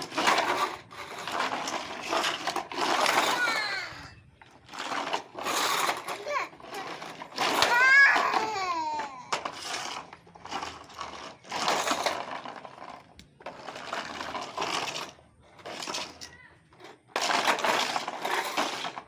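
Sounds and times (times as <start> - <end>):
plastic toy cars clattering: 0.0 - 19.0.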